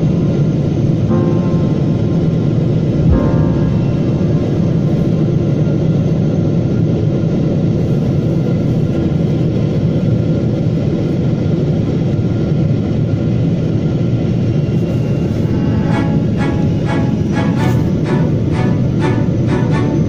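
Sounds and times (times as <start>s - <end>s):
jet airliner cabin noise: 1.8s - 20.0s.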